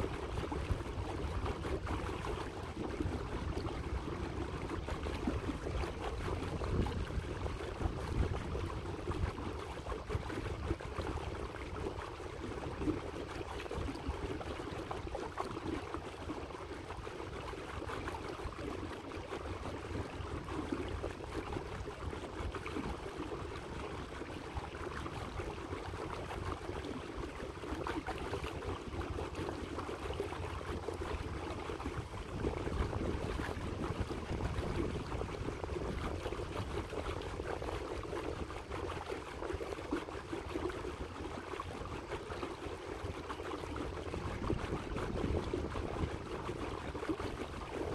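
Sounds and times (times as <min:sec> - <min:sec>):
water lapping against boat hull: 0:00.0 - 0:47.9.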